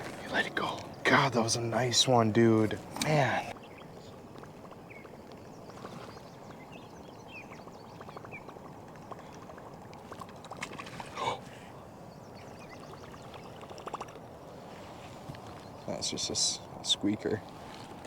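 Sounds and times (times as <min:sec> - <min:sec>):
water and wind on a river: 0:00.0 - 0:18.0.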